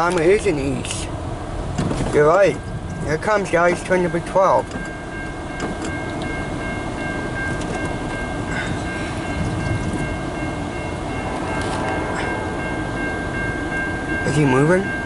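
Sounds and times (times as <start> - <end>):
freight train rumbling: 0.0 - 15.0
steady high tones: 2.4 - 15.0.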